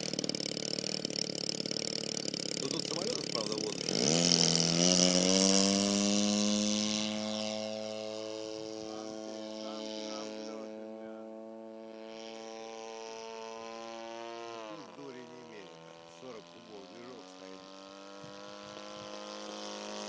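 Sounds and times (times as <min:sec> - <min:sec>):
model plane engine at full throttle: 0:00.0 - 0:20.0.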